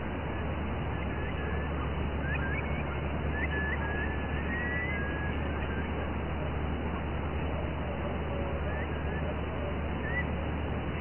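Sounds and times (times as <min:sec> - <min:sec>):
faint whistled bird calls: 0:00.0 - 0:06.1, 0:07.5 - 0:11.0
outdoor background noise: 0:00.0 - 0:11.0.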